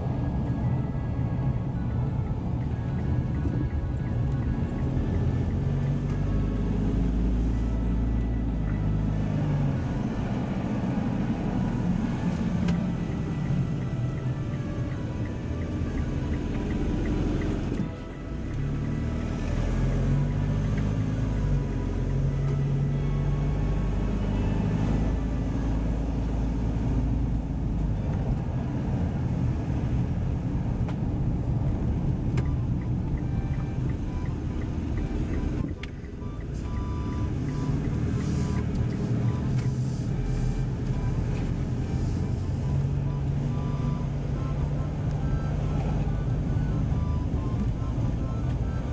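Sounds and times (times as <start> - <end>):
motor vehicle running: 0.0 - 48.9.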